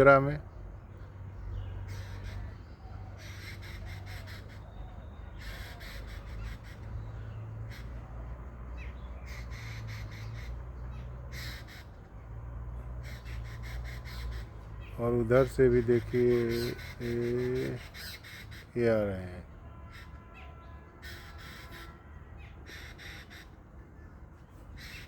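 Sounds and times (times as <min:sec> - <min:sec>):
crows cawing: 0:01.8 - 0:25.0.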